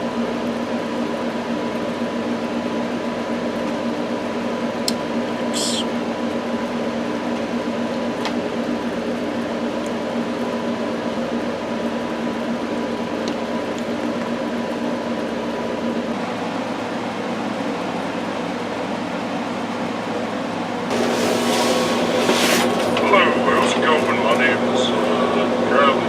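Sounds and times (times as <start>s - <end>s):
electric appliance hum: 0.0s - 26.0s.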